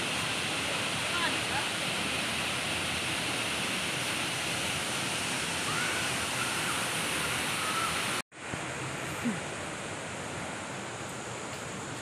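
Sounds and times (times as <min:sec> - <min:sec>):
dull steady hiss: 0:00.0 - 0:12.0
waterfall rushing: 0:00.0 - 0:12.0.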